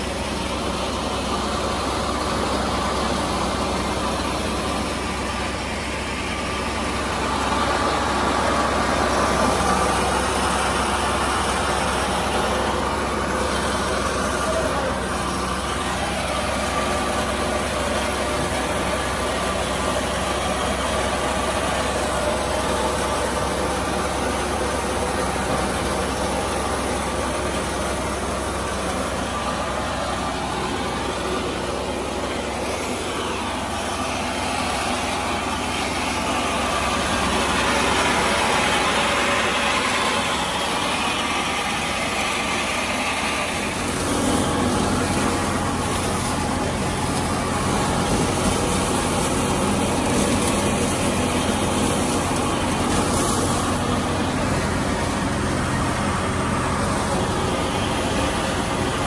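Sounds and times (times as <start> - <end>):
rushing grain and chaff: 0.0 - 59.0
tractor driven thresher drone: 0.0 - 59.0.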